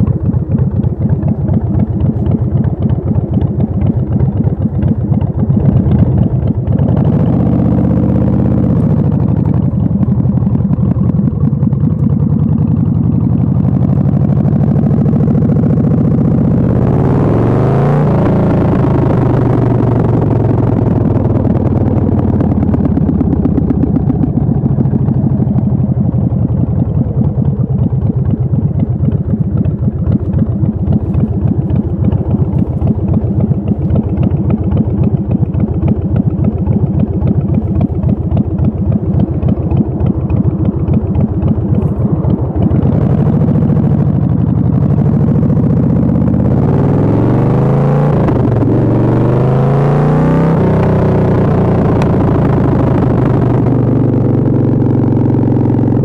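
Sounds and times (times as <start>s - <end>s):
motorcycle engine accelerating: 0.0s - 56.0s
motorcycle engine idling: 0.0s - 56.0s.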